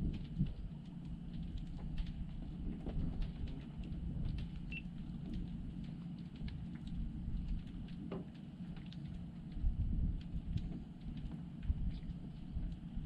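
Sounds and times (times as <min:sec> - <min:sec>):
wind rumble on microphone: 0:00.0 - 0:13.0
faint ticks and taps: 0:00.1 - 0:12.9.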